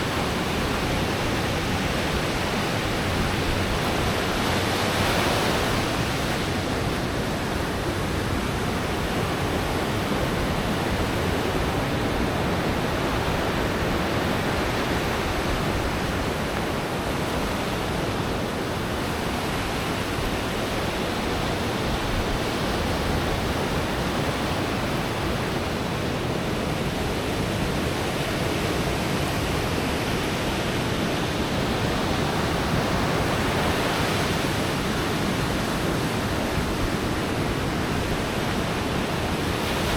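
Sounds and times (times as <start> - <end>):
surf roaring on beach: 0.0 - 39.9.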